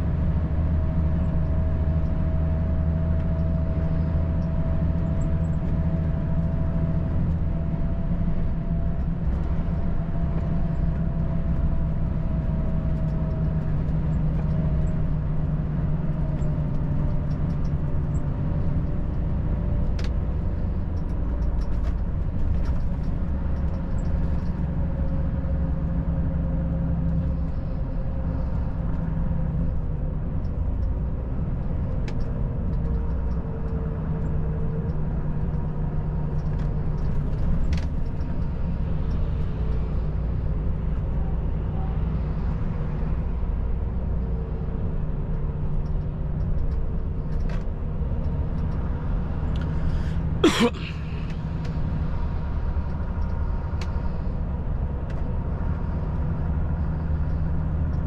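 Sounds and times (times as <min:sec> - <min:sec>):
truck driving at highway speed: 0:00.0 - 0:58.0.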